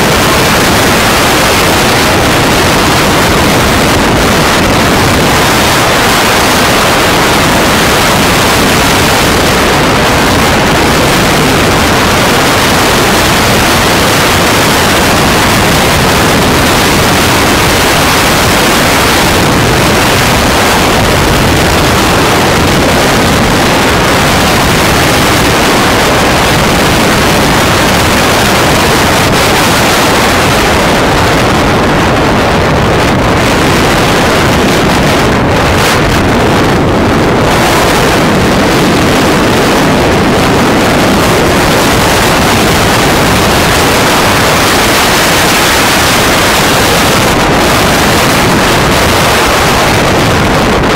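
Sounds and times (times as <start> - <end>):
motorcycle engine and road noise: 0.0 - 50.9
wind rushing over microphone: 0.0 - 50.9.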